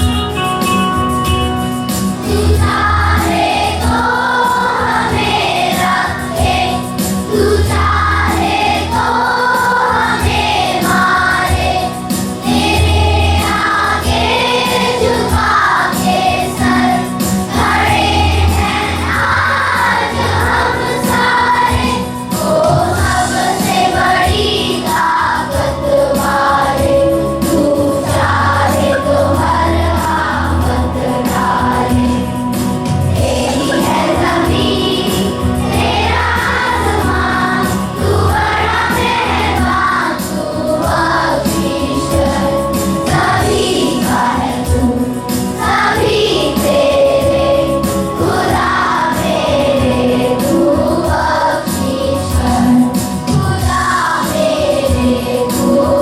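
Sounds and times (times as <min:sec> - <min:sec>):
instrumental accompaniment with beat: 0:00.0 - 0:56.0
group of voices singing: 0:02.0 - 0:56.0.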